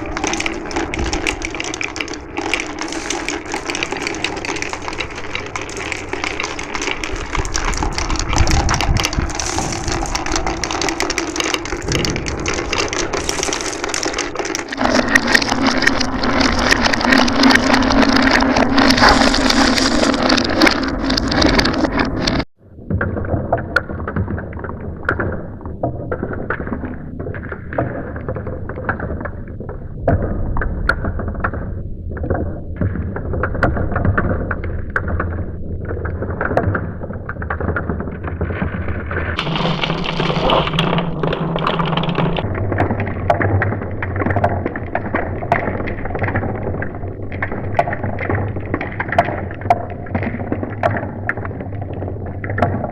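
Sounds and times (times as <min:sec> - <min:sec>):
marbles rolling and clicking: 0:00.0 - 0:22.5, 0:32.3 - 0:52.9.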